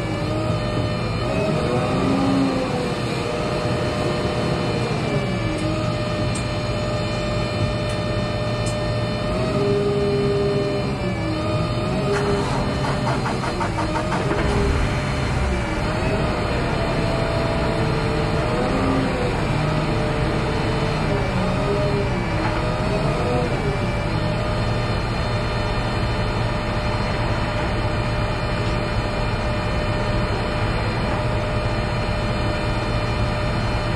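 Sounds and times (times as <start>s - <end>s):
crane engine and hydraulic whine: 0.0s - 33.9s.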